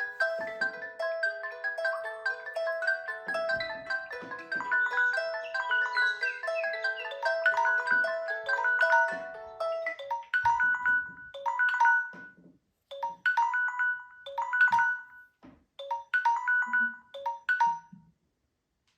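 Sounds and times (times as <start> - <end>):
phone timer alarm chime: 0.0 - 18.0.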